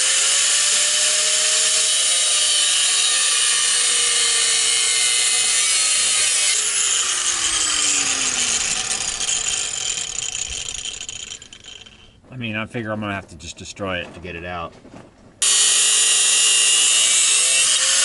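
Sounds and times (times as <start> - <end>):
grinder motor winding down: 0.0 - 12.0, 15.4 - 18.0
angle grinder cutting metal: 0.0 - 12.1, 15.4 - 18.0.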